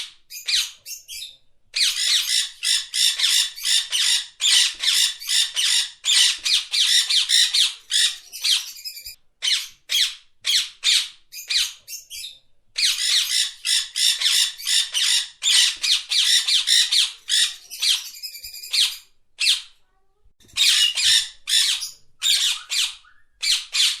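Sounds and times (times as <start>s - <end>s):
parrot squawking: 1.8s - 19.7s, 20.5s - 24.0s.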